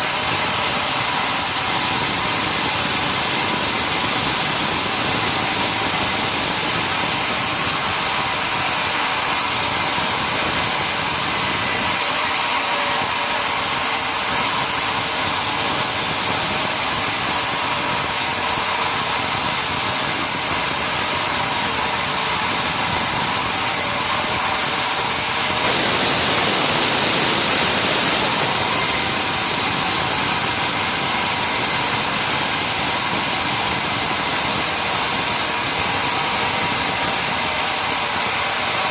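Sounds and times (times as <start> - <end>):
sawmill machinery hissing: 0.0 - 38.9.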